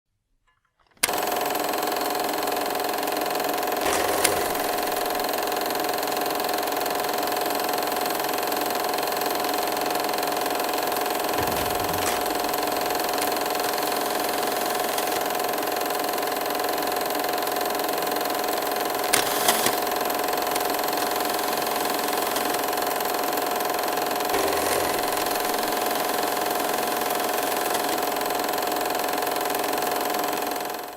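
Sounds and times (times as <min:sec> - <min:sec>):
film projector whirring: 0:01.0 - 0:30.9.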